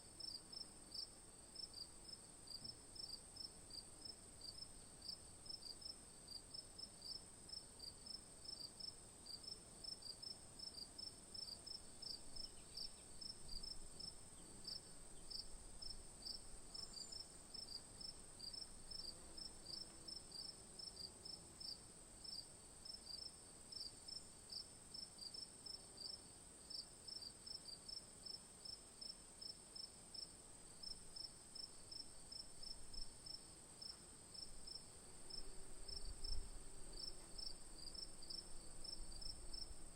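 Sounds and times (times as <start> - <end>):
crickets chirping: 7.0 - 25.4, 26.0 - 39.9.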